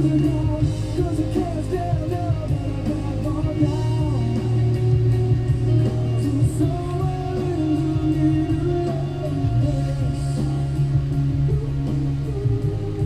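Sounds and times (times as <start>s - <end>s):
person singing: 0.0s - 13.0s
rock song with guitar and beat: 0.0s - 13.0s.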